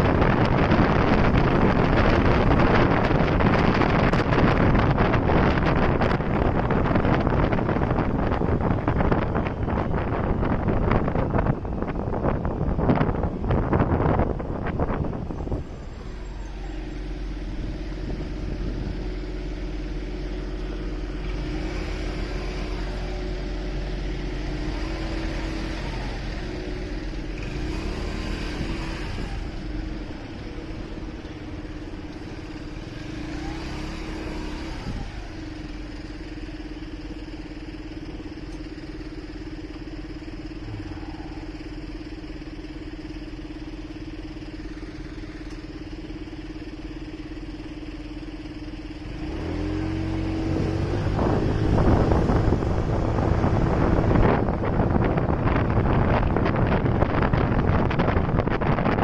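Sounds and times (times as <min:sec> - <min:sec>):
motorcycle engine running: 0:00.0 - 0:59.0
vehicles passing: 0:00.0 - 0:59.0.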